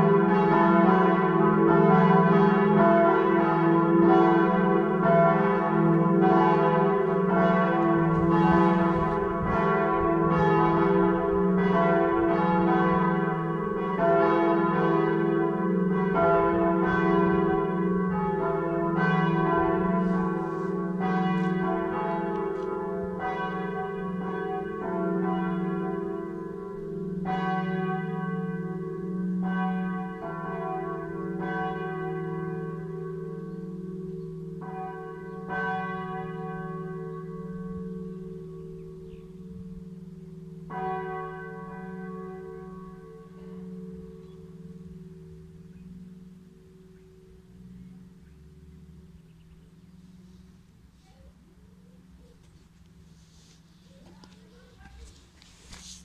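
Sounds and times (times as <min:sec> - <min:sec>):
church bells ringing: 0:00.0 - 0:55.8.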